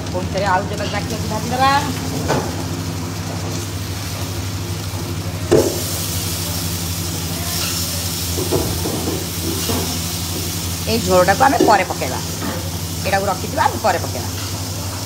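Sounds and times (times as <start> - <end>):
gas burner running: 0.0 - 15.0
hot oil sizzling: 0.0 - 15.0.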